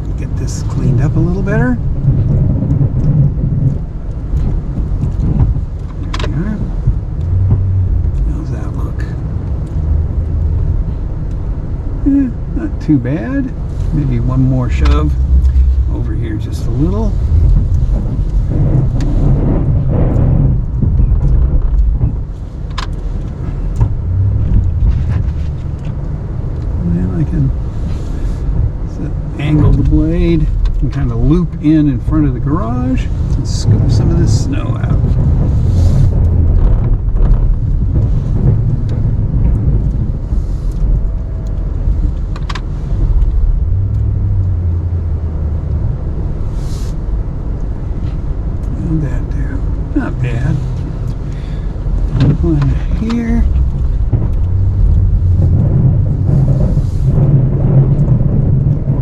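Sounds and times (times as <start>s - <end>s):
truck engine low rumble: 0.0s - 59.0s.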